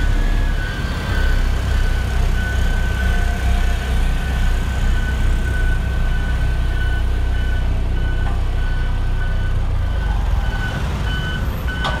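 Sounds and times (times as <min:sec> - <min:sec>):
road roller diesel engines rumbling: 0:00.0 - 0:12.0.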